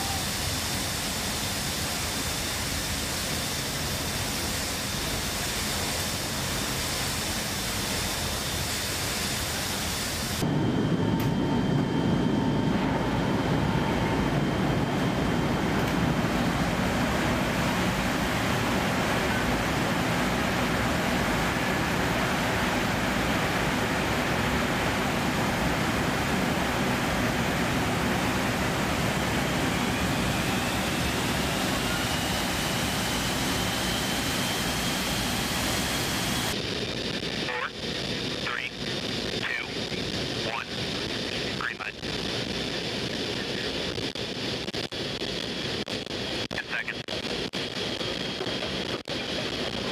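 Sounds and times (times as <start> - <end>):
aircraft engine noise: 0.0 - 49.9.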